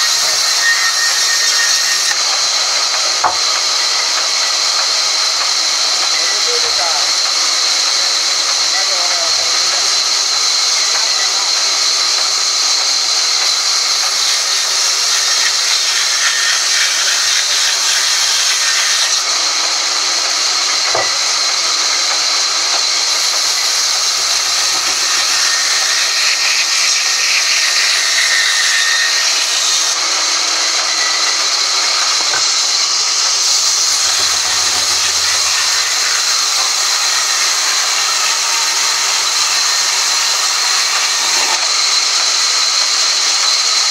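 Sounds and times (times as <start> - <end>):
band saw cutting log: 0.0 - 43.9.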